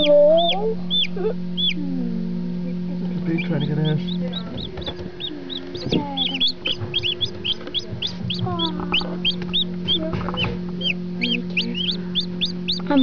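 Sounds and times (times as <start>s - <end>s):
chicks peeping: 0.0s - 2.0s, 3.0s - 13.0s.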